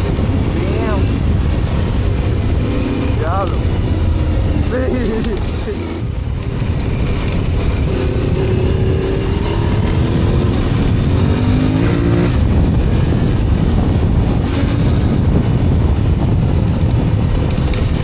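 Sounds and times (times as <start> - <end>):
motorcycle engine running: 0.0 - 18.0
wind rumble: 0.0 - 18.0.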